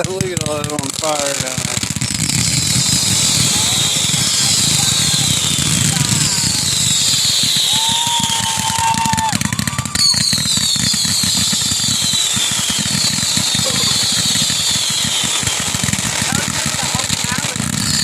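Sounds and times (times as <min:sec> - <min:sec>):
firework sharp burst: 0:00.0 - 0:18.0
fireworks crackling pops: 0:00.0 - 0:18.0
fireworks whistles: 0:00.0 - 0:18.0.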